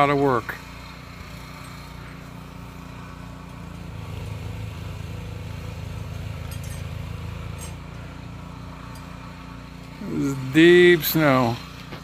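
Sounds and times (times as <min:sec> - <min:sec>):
snowblower engine running: 0:00.0 - 0:12.0.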